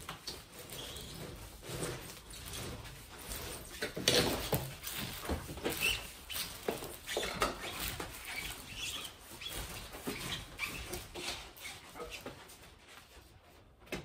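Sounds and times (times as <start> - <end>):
hand tool scraping and rustling: 0.0 - 14.0.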